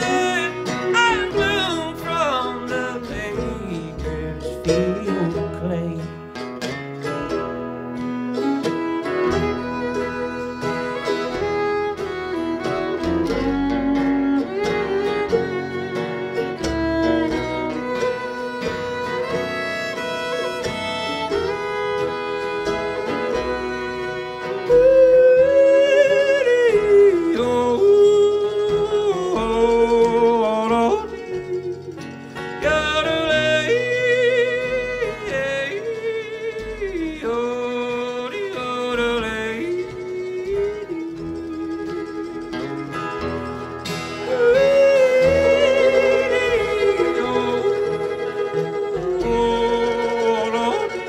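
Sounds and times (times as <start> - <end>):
acoustic guitar strumming: 0.0 - 51.0
fiddle playing: 0.0 - 51.0.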